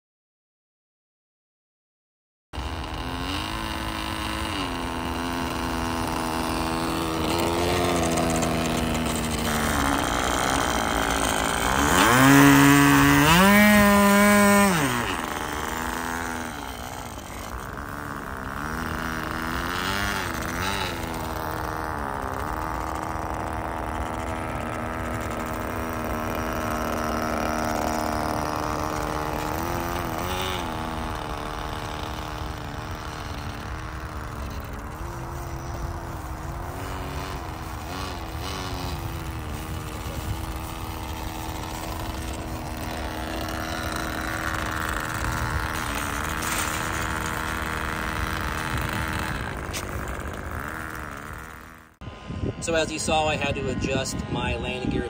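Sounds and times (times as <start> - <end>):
model plane engine idling and revving: 2.6 - 55.0.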